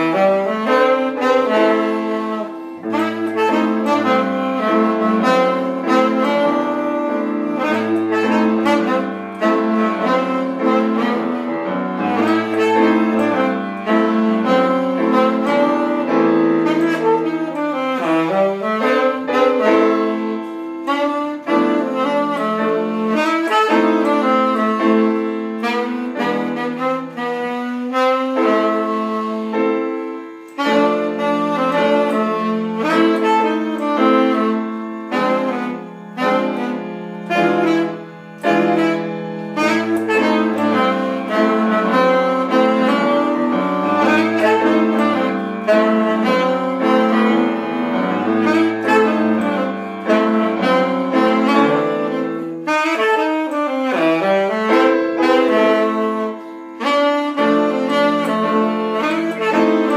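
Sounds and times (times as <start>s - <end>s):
piano accompaniment: 0.0s - 59.9s
saxophone melody: 0.0s - 59.9s.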